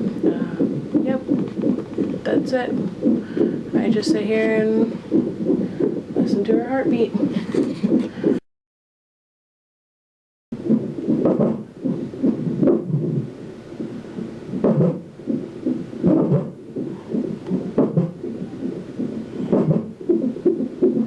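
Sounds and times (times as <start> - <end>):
fetal heartbeat on doppler: 0.0 - 8.4, 10.6 - 21.0.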